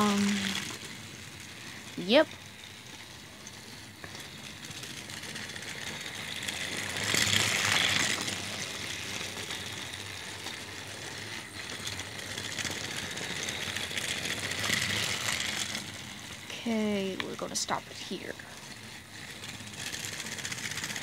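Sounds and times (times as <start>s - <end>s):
toy train motor rattling whir: 0.0s - 21.0s.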